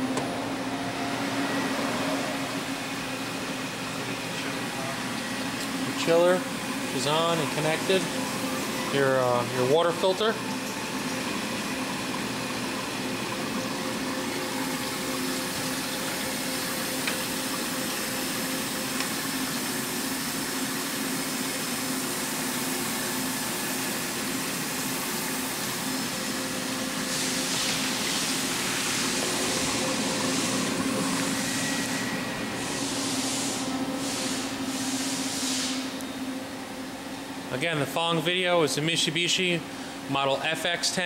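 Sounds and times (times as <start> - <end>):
pump and chiller hum: 0.0 - 41.0
water running through filters: 0.0 - 41.0.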